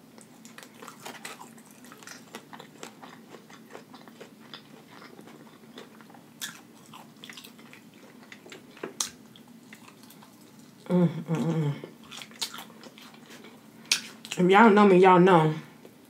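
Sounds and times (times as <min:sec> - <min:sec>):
wet chewing and crunching: 0:00.0 - 0:14.4.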